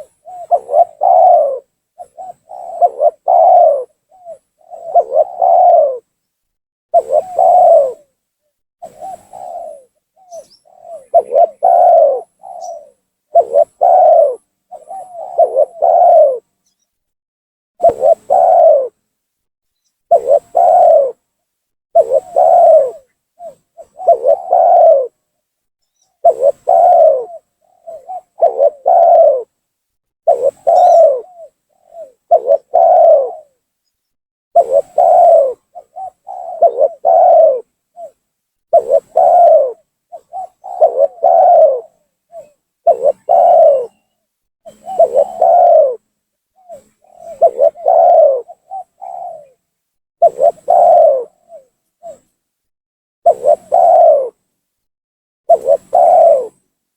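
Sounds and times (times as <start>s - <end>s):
dove cooing: 0.0s - 6.1s, 6.9s - 8.2s, 8.8s - 16.8s, 17.8s - 19.0s, 20.1s - 21.3s, 22.0s - 25.2s, 26.2s - 29.6s, 30.2s - 33.6s, 34.6s - 49.6s, 50.2s - 52.3s, 53.3s - 54.4s, 55.5s - 56.7s.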